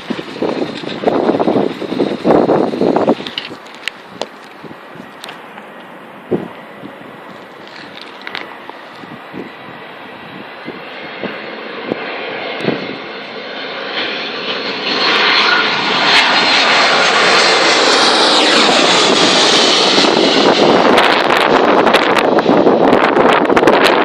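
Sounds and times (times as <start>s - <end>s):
wind buffeting microphone: 0.0s - 13.3s, 14.6s - 24.0s
jet airliner passing overhead: 0.0s - 24.0s.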